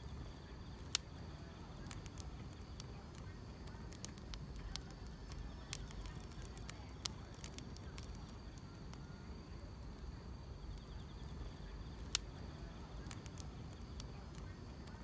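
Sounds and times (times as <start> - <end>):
sharp fire pops: 0.0 - 9.1, 9.8 - 15.0
crickets chirring: 0.0 - 15.0
wood fire crackling: 0.0 - 15.0.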